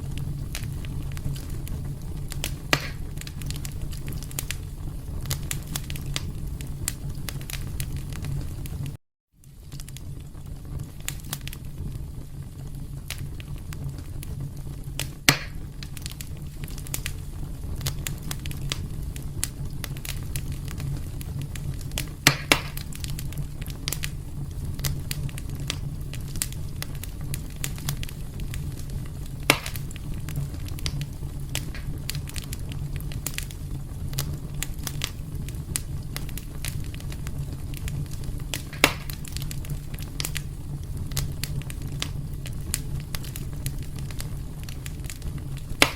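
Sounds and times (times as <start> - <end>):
fire crackling and popping: 0.0 - 45.9
wood fire rumbling: 0.0 - 45.9.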